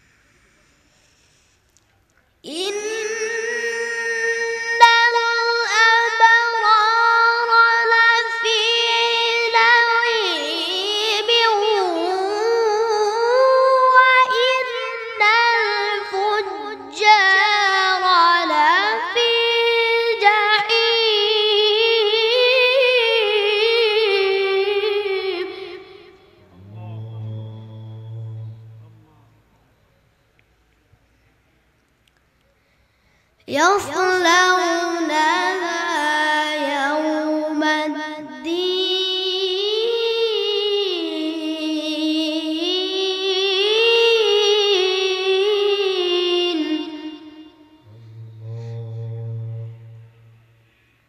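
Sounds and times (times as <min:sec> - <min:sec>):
boy reciting melodically: 0:02.4 - 0:29.0, 0:33.4 - 0:50.0.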